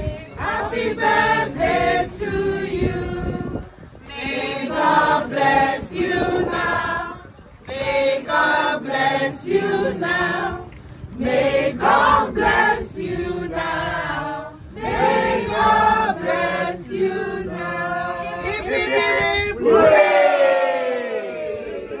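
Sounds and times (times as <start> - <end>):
group singing birthday song: 0.0 - 21.2.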